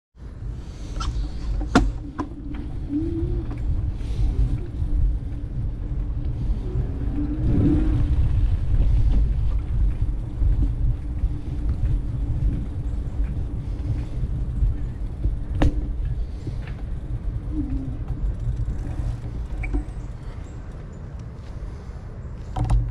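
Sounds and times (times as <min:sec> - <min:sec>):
wind and road noise: 0:00.2 - 0:22.9.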